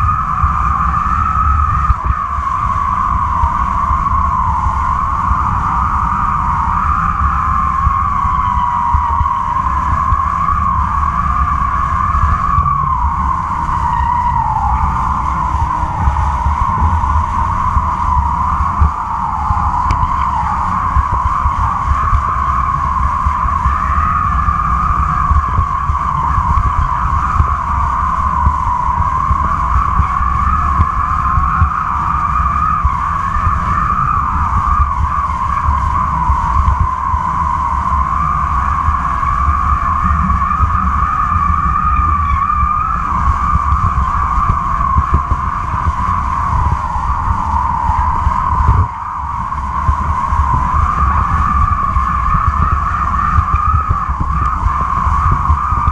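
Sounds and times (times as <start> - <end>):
kite line humming: 0.0 - 55.9
wind buffeting microphone: 0.0 - 55.9.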